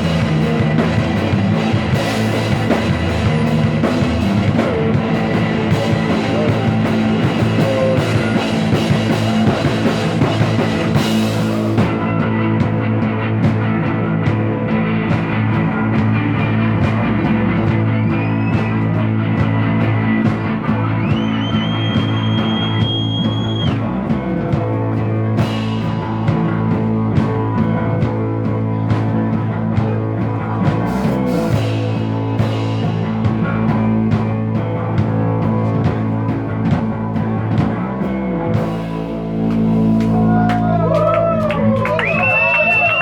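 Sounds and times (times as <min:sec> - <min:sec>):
guitar high gliding notes: 0:00.0 - 0:43.0
rock band playing: 0:00.0 - 0:43.0.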